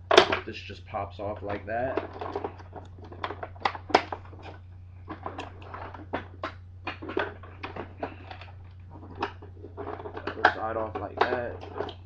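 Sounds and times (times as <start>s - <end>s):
plastic parts clicking and knocking: 0.0s - 0.5s, 1.2s - 12.0s.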